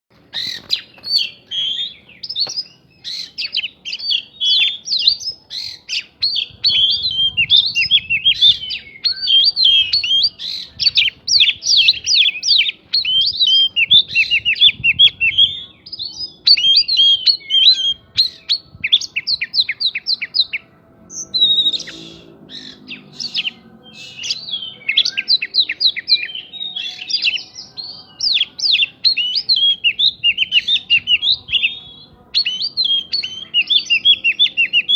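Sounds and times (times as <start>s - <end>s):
songbird chirping and whistling: 0.2s - 34.9s.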